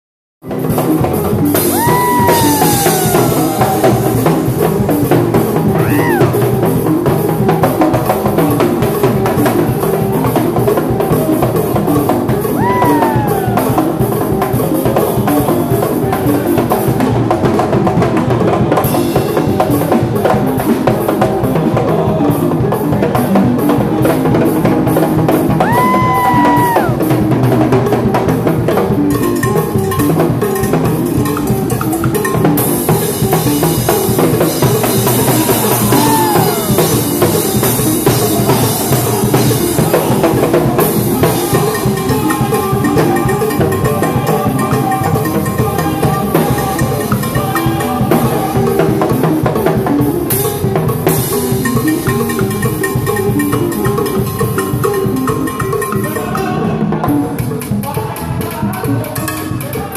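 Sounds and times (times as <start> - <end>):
drum kit and congas: 0.4 - 59.9
timbales and cowbell: 0.6 - 59.9.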